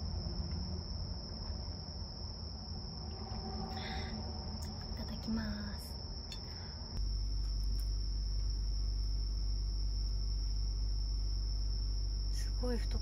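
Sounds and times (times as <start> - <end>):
insects chirring: 0.0 - 13.0
steady low hum: 0.0 - 13.0.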